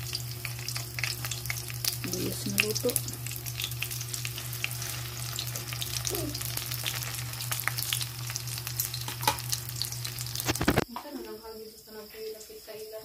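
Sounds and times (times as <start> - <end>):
oil sizzling and popping: 0.0 - 11.1.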